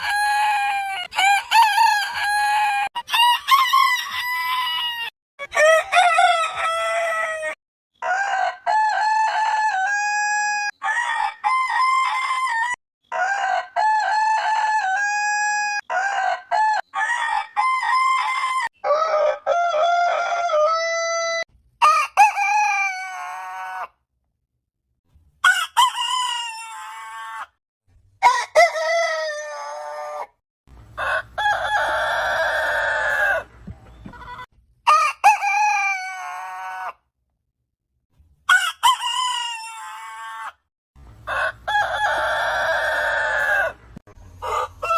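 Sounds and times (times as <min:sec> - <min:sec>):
roosters crowing: 0:00.0 - 0:23.9, 0:25.4 - 0:27.6, 0:28.2 - 0:30.3, 0:30.9 - 0:37.0, 0:38.5 - 0:40.6, 0:41.2 - 0:44.9.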